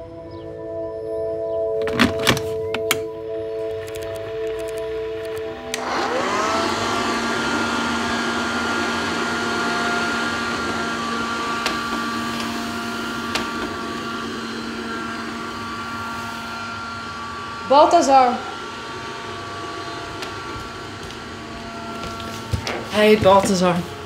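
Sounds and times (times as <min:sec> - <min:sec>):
robot vacuum motor whirring: 0:03.9 - 0:24.0.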